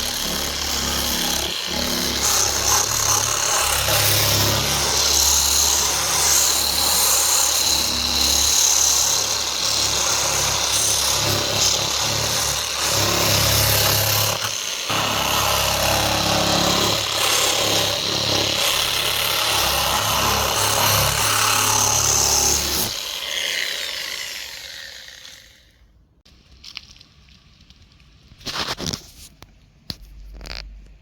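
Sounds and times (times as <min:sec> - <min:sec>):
power tool running: 0:00.0 - 0:25.8.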